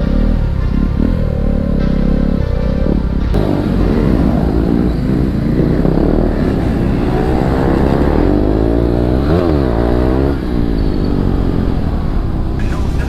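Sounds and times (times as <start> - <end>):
motorcycle engine accelerating: 0.0 - 13.0
wind and road noise rumble: 0.0 - 13.0.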